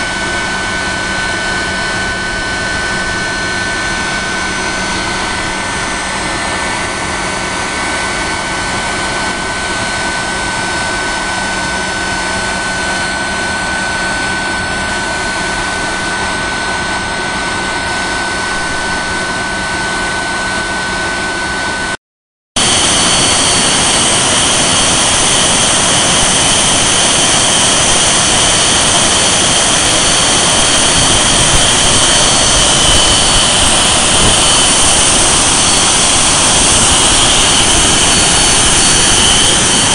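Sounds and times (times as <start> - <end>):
jet engine roaring with whine: 0.0 - 22.0, 22.6 - 39.9.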